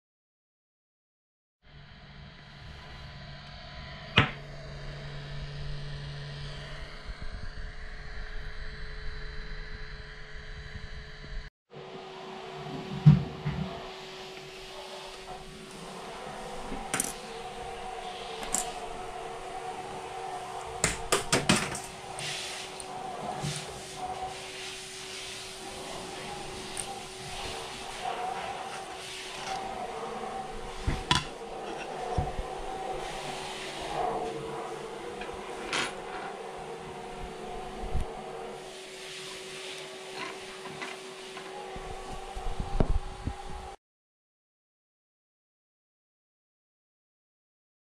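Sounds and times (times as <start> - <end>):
cooling fan hum: 1.7 - 43.8.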